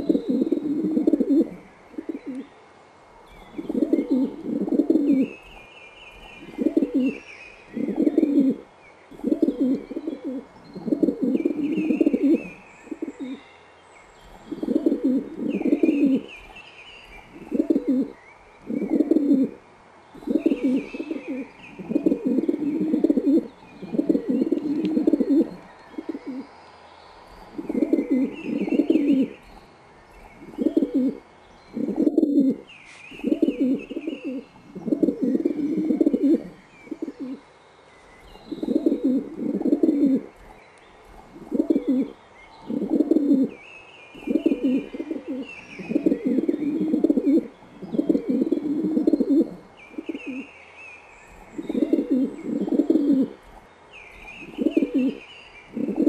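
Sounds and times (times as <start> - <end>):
pigeons cooing: 0.0 - 2.5, 3.3 - 5.5, 6.2 - 13.5, 14.2 - 19.6, 20.2 - 26.5, 27.4 - 29.6, 30.2 - 37.4, 38.3 - 50.5, 51.2 - 56.0.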